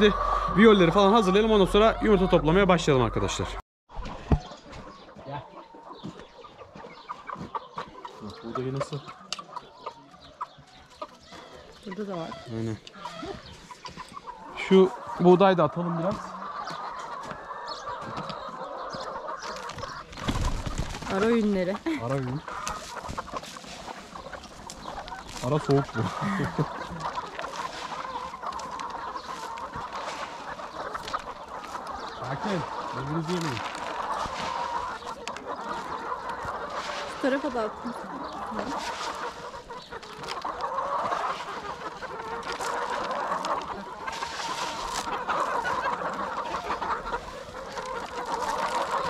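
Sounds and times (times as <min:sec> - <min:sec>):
hens clucking and chattering: 0:00.0 - 0:49.0.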